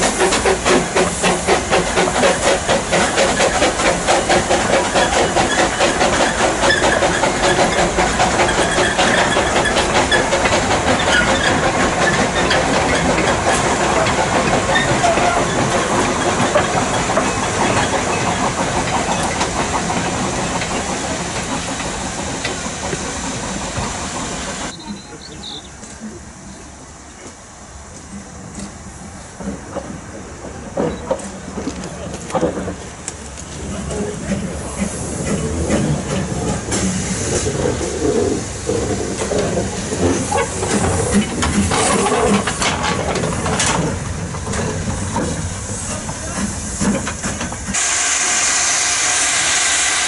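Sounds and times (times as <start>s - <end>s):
hiss of steam: 0.0s - 50.0s
steam locomotive chuffing: 0.0s - 50.0s.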